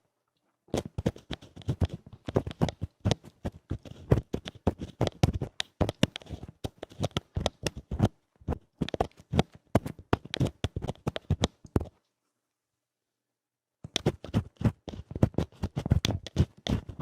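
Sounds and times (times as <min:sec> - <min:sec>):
scratching at microphone: 0:00.7 - 0:12.0, 0:13.9 - 0:17.0.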